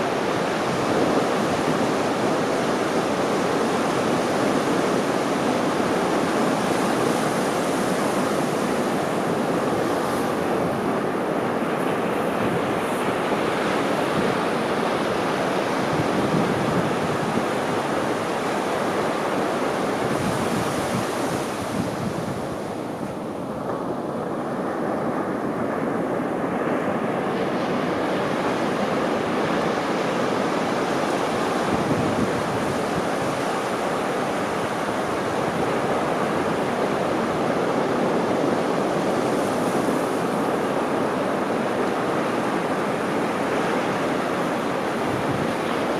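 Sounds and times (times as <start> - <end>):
ocean waves breaking on beach: 0.0 - 45.9.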